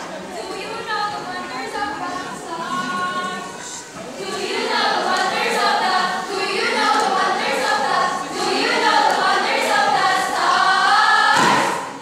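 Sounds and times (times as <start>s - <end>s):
young voices chanting in unison: 2.2s - 12.0s.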